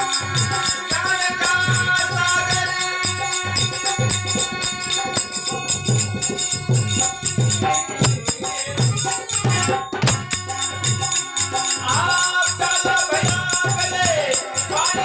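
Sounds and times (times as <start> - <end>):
drum beating steady rhythm: 0.0 - 15.0
jingling hand percussion: 0.0 - 15.0.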